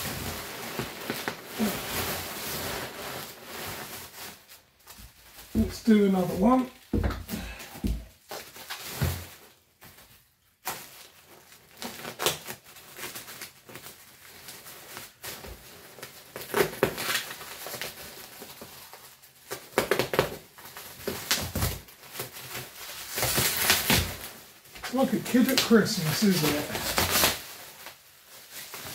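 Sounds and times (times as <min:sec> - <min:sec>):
bubble wrap crinkling: 0:00.0 - 0:28.9.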